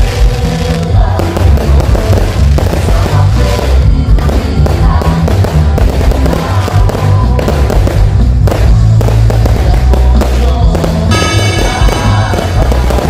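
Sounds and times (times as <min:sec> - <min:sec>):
fireworks bursting and crackling: 0:00.0 - 0:13.0
loud music: 0:00.0 - 0:13.0.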